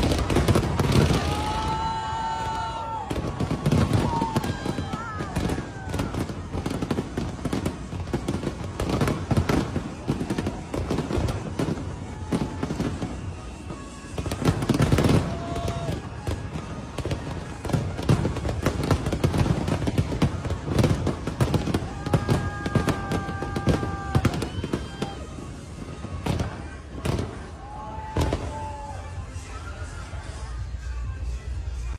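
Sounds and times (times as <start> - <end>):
fireworks bangs and crackles: 0.0 - 31.9.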